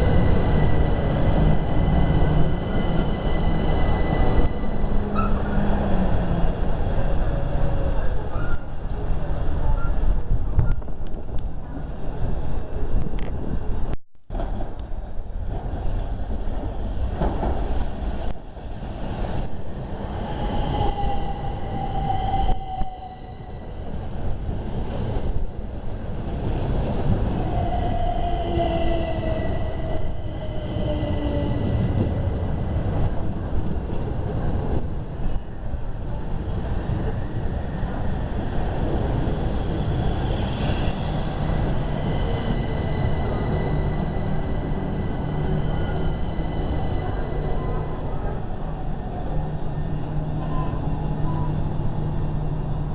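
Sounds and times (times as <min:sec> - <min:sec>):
electric train rumbling: 0:00.0 - 0:52.9.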